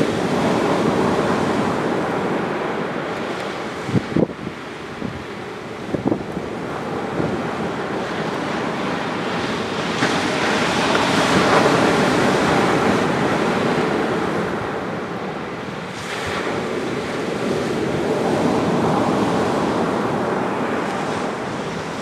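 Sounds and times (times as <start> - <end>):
surf breaking on sandy beach: 0.0 - 22.0.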